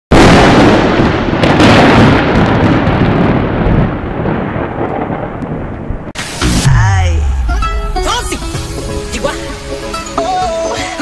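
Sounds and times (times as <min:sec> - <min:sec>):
thunder crack and rumble: 0:00.1 - 0:09.5.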